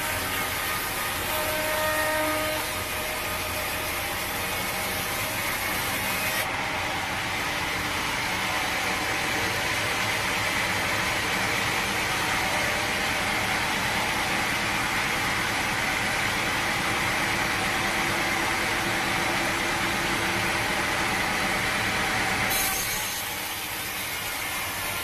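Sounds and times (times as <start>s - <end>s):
sawmill machinery running: 0.0s - 25.0s.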